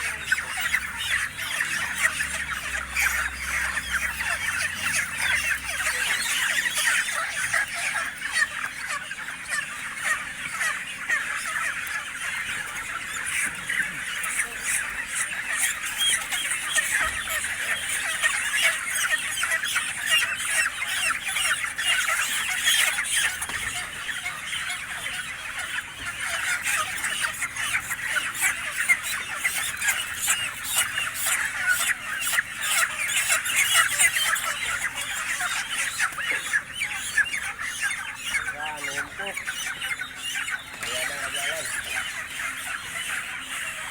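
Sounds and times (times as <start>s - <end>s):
chickens squawking and clucking: 0.0s - 43.9s.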